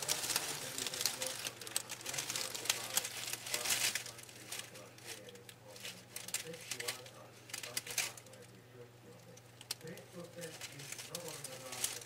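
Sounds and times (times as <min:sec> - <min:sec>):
dry leaves rustling and crackling: 0:00.0 - 0:08.2, 0:09.8 - 0:12.0
low steady hum: 0:00.0 - 0:12.0.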